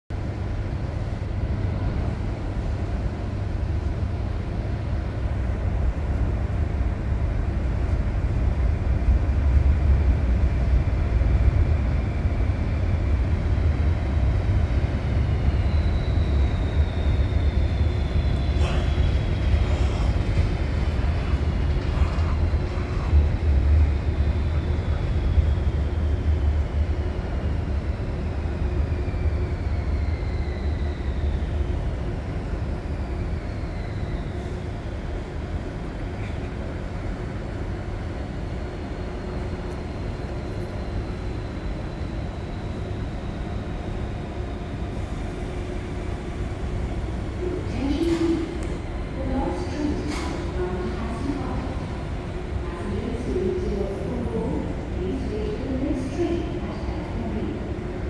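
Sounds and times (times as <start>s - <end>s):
train rumbling in tunnel: 0.1s - 58.0s.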